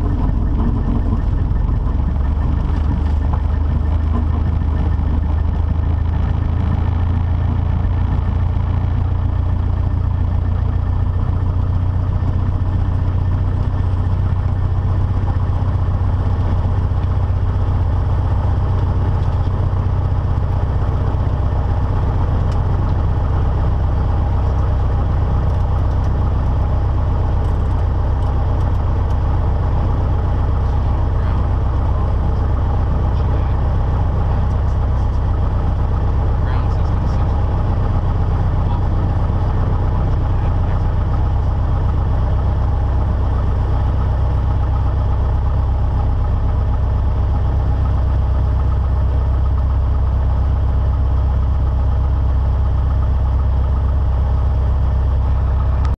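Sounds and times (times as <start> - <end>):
plane engine idling: 0.0 - 55.9.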